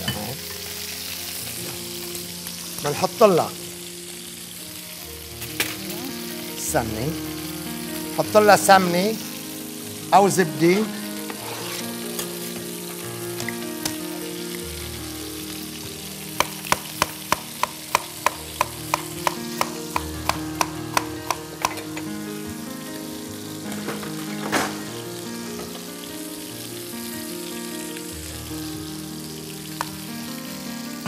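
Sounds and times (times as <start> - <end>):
food sizzling in pans: 0.0 - 31.0.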